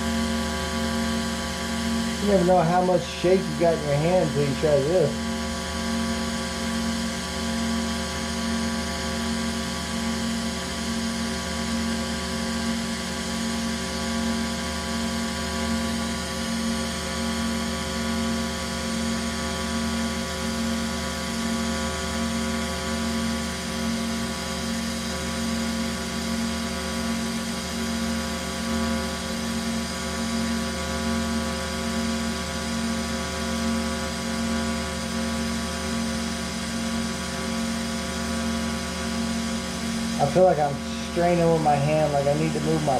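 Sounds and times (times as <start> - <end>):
welding arc humming and buzzing: 0.0 - 42.9.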